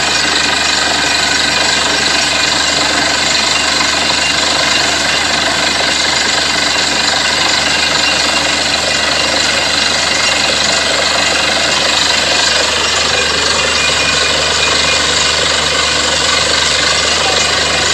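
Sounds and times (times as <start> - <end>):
drilling rig running: 0.0 - 17.9.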